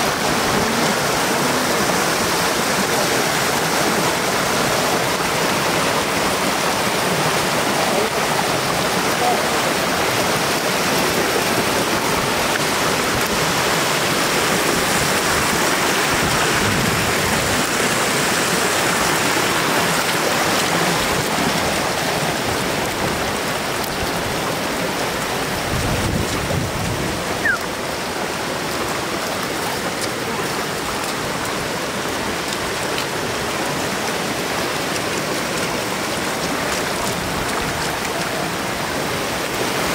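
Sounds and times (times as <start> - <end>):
water flowing over road: 0.0 - 39.9.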